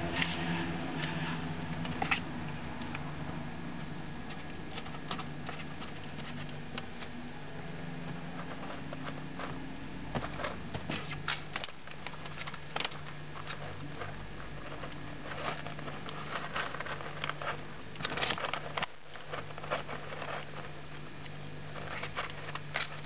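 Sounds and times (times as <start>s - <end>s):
kittens tapping and rustling: 0.0s - 23.0s
steady low hum: 0.0s - 23.0s.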